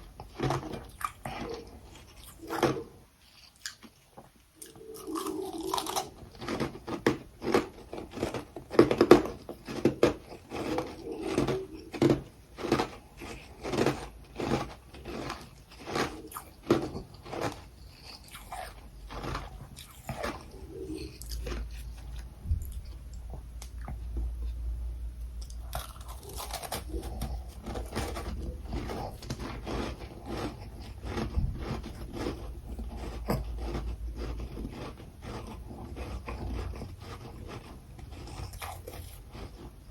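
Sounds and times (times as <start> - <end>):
person chewing crunchy ice: 0.0 - 24.5, 25.4 - 39.9.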